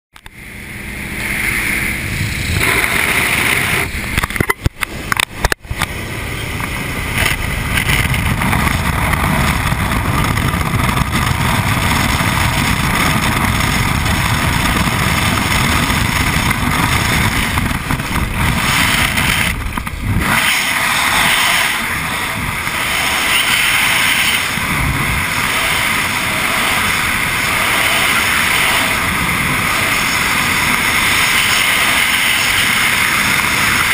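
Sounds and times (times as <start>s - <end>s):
airplane engine rumble: 0.2s - 33.9s
wind rushing: 0.5s - 33.9s.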